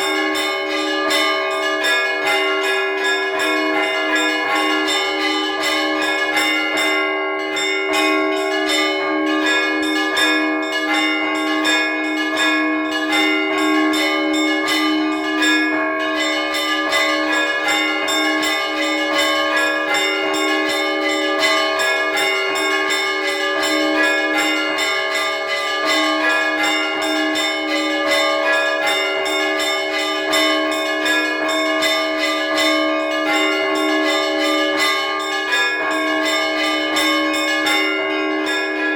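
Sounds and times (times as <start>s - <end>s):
large bells ringing: 0.0s - 38.9s
small church bells ringing rapidly: 0.0s - 38.9s.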